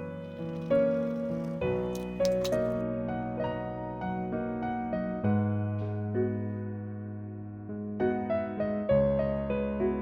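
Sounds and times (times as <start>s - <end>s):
soft slow piano melody: 0.0s - 10.0s.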